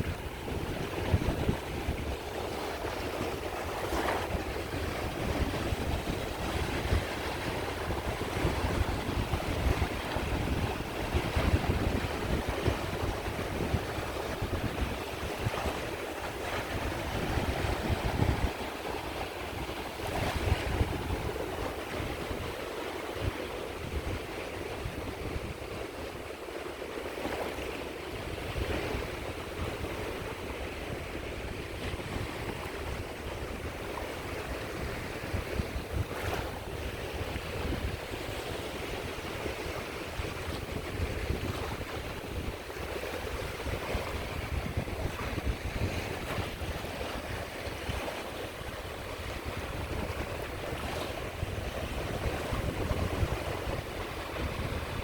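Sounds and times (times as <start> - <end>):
sea waves washing onto shore: 0.0 - 55.0
wind buffeting microphone: 0.0 - 55.0.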